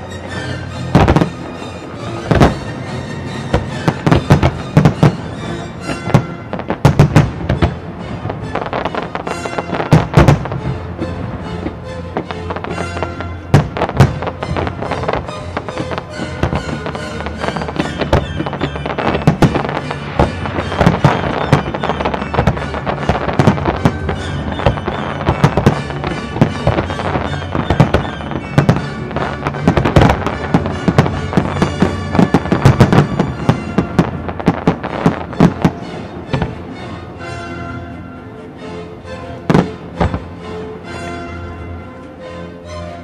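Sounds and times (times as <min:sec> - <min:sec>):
fireworks bangs: 0:00.0 - 0:36.8, 0:39.5 - 0:40.4
soundtrack music: 0:00.0 - 0:43.0.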